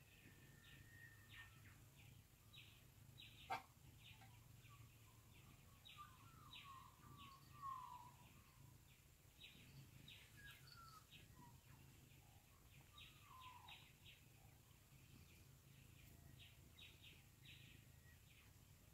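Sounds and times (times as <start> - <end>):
birds chirping: 0.0 - 18.9
low steady hum: 0.0 - 18.9
warbled bird song: 0.0 - 18.9.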